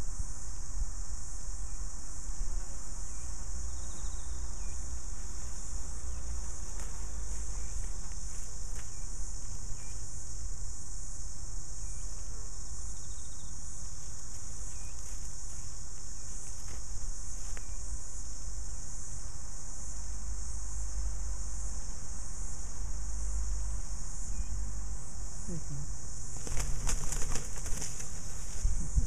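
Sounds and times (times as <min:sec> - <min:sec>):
insects chorus: 0:00.0 - 0:29.0.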